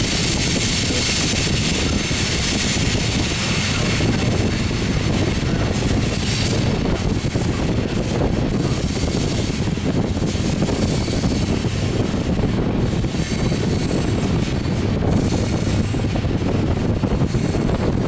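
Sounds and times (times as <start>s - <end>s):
train rolling past rumbling: 0.0s - 18.0s
wind buffeting microphone: 0.0s - 18.0s.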